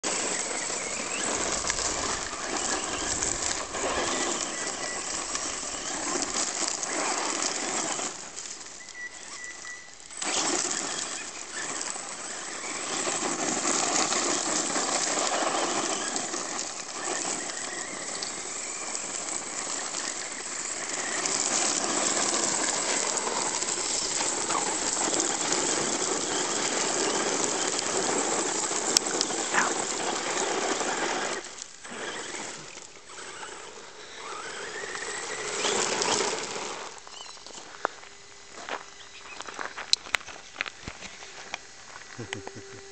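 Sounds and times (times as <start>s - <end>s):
rc truck tyres spraying gravel: 0.0s - 42.9s.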